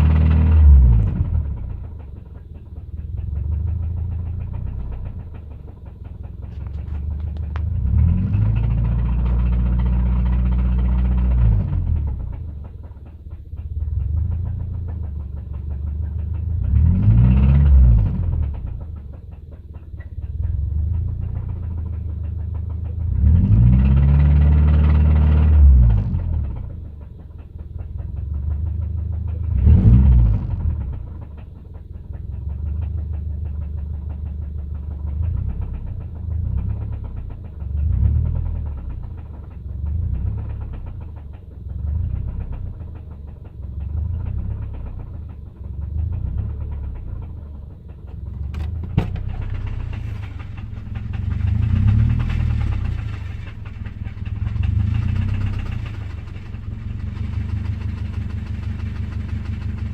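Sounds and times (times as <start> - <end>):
car engine running: 0.0 - 59.9
rapid engine knocking: 0.0 - 59.9.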